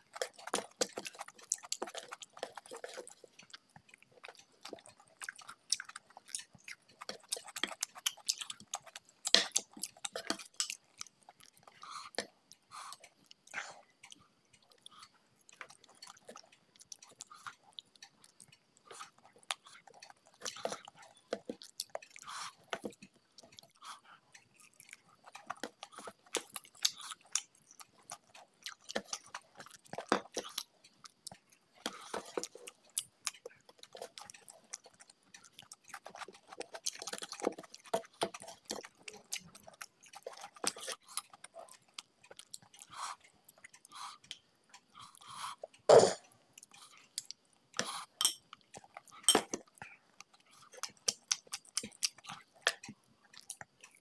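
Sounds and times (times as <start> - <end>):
chewing and mouth clicks: 0.0 - 54.0.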